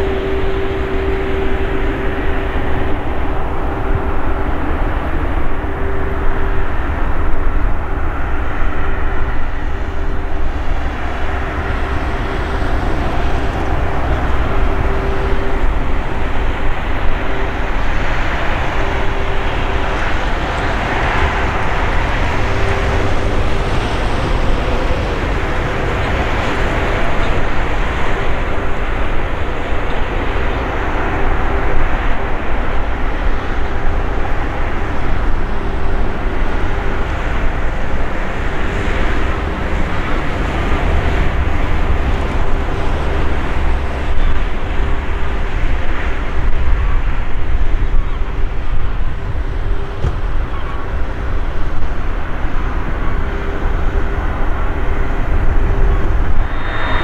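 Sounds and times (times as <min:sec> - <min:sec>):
jet engines taxiing: 0:00.0 - 0:57.0.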